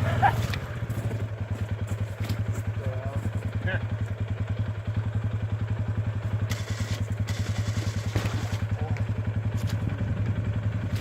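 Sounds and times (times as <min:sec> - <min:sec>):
atv engine running at low revs: 0:00.0 - 0:11.0.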